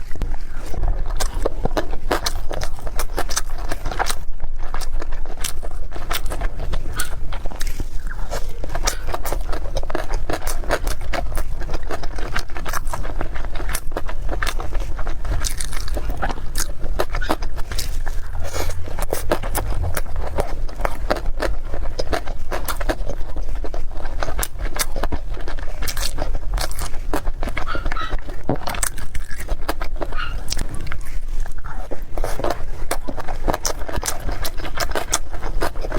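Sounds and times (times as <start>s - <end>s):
steady low rumble: 0.0s - 29.1s
close chewing and eating: 0.0s - 35.9s.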